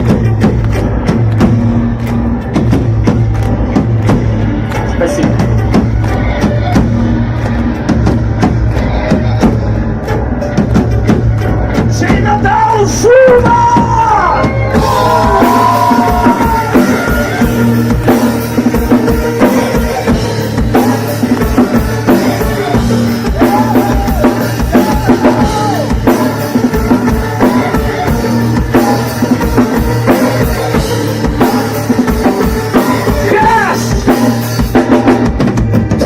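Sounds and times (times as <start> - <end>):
rock band playing instrumental: 0.0 - 36.0.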